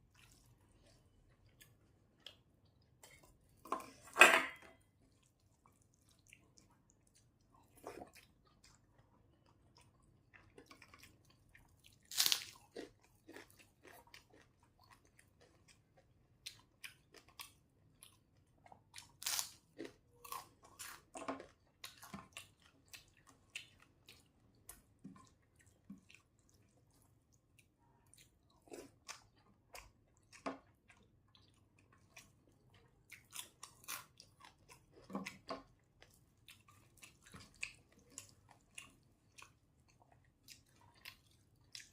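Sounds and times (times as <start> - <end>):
person chewing crunchy food: 4.9 - 41.9.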